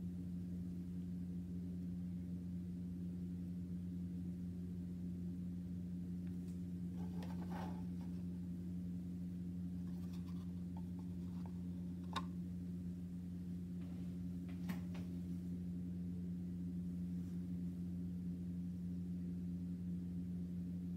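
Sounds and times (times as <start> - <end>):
low electrical hum: 0.0 - 20.9.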